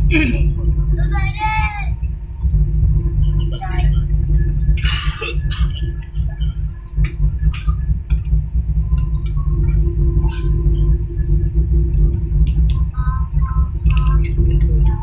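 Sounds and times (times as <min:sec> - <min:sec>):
jet engines idling rumble: 0:00.0 - 0:15.0
steady hum: 0:00.0 - 0:15.0.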